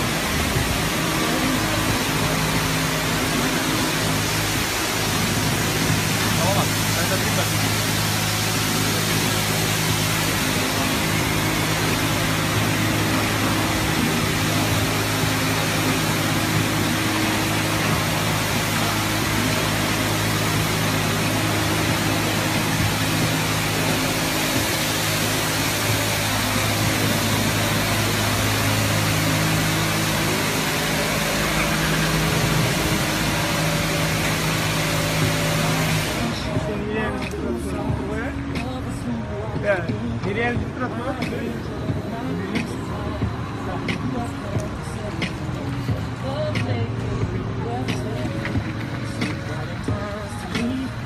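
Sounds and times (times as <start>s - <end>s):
high-pressure water spray hissing: 0.0s - 51.0s
low machine hum: 0.0s - 51.0s.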